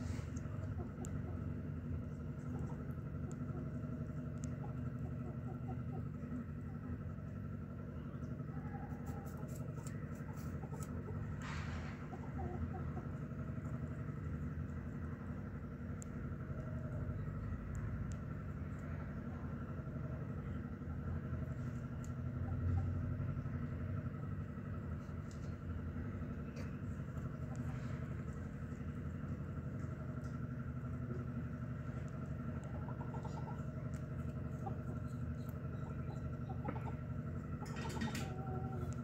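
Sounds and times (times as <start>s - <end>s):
mechanical engine-like hum: 0.0s - 39.0s.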